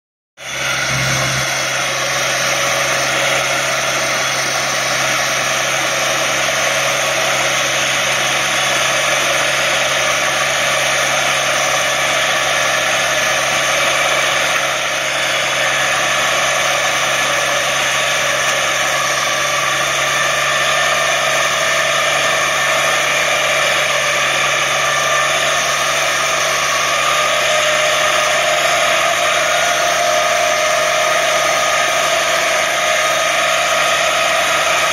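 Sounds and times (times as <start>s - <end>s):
tractor and mower whirring: 0.4s - 34.9s.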